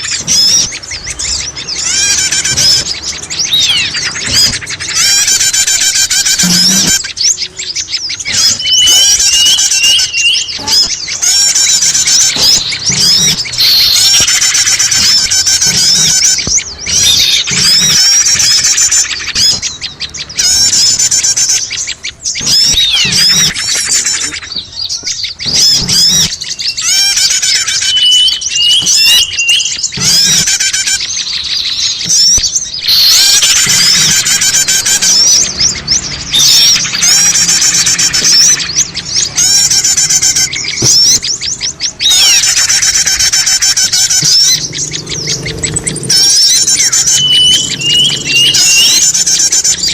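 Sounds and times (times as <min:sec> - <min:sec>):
small songbirds chirping and trilling: 0:00.0 - 0:49.9.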